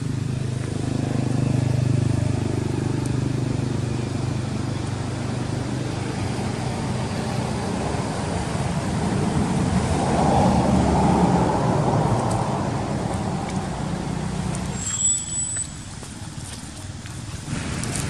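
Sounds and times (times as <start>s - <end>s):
vehicle engine running: 0.0s - 14.8s
road traffic passing: 0.0s - 18.0s.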